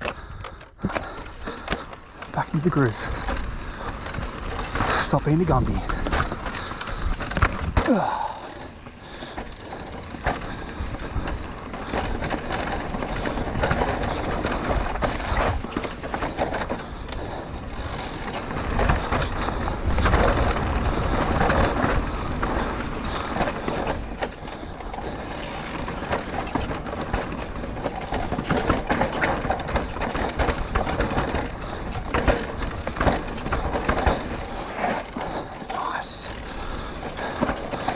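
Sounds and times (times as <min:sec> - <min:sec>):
bike rattling over bumps: 0:00.0 - 0:37.9
tyres rumbling over rock and dirt: 0:00.8 - 0:37.9.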